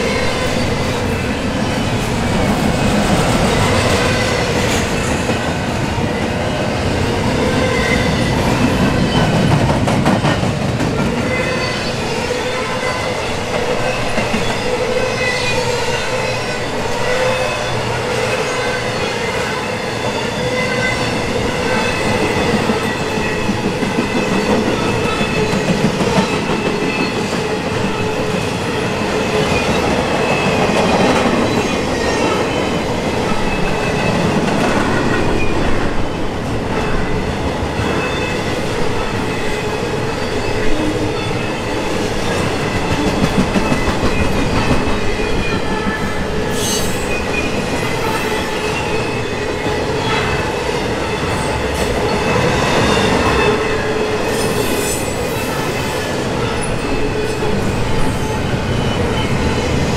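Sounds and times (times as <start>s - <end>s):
train wheels squealing on rail: 0.0s - 59.9s.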